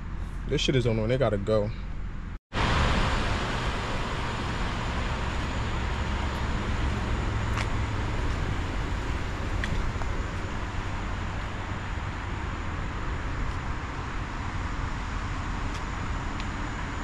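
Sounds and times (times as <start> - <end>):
car road and tyre noise: 0.0 - 17.0.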